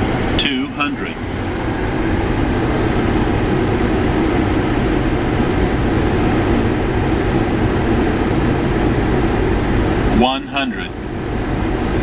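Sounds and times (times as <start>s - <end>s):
airflow over airframe: 0.0s - 12.0s
jet engine noise: 0.0s - 12.0s.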